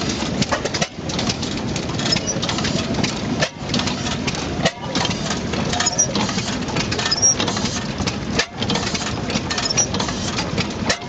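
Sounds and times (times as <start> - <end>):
stationary gas engine running: 0.0 - 11.0
valve gear clicking clatter: 0.0 - 11.0.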